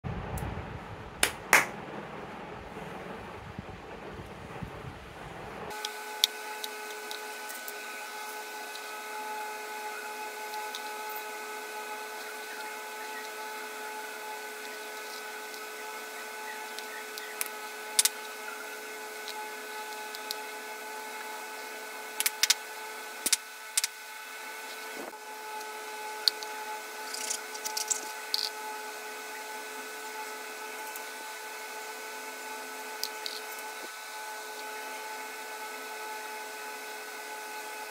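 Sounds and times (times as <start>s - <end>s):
small electric motor running: 5.7s - 37.9s.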